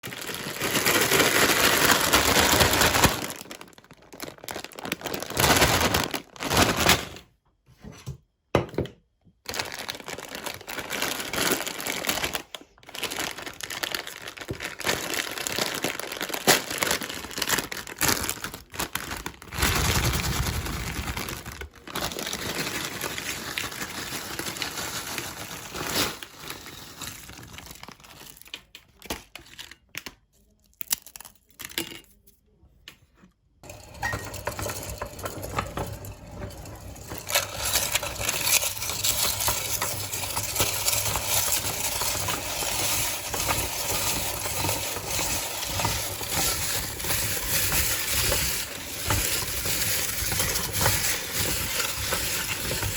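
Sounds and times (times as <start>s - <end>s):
potato chips crackling in grinder: 0.0s - 7.2s, 9.4s - 28.8s, 33.6s - 52.9s.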